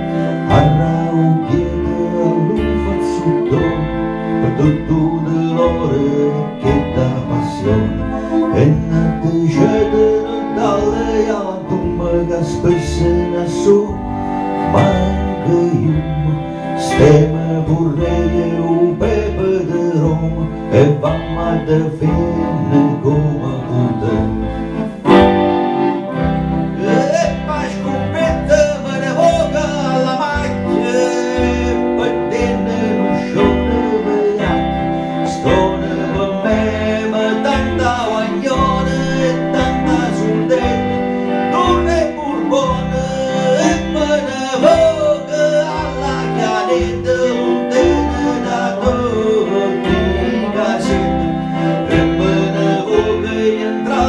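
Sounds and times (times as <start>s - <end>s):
accordion chords: 0.0s - 54.0s
electric lead guitar melody: 0.0s - 54.0s.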